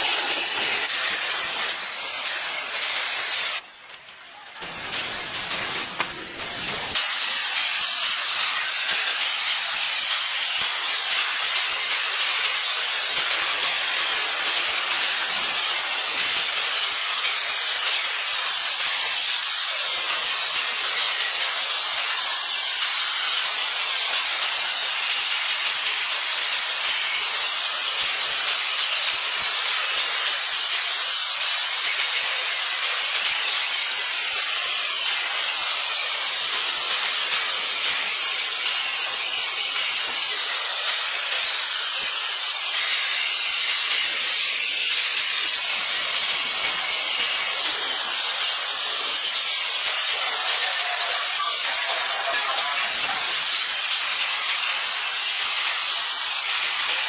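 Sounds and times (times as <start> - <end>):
steady loud hiss: 0.0 - 57.0.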